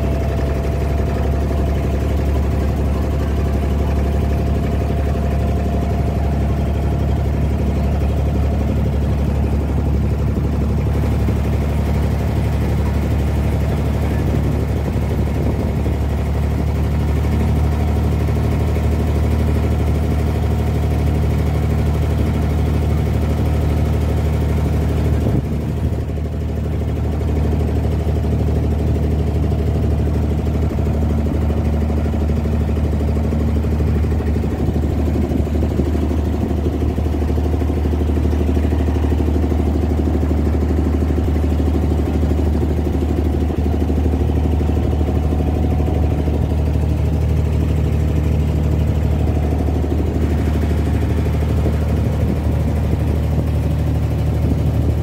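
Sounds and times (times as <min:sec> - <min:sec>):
boat diesel engine droning: 0:00.0 - 0:55.0.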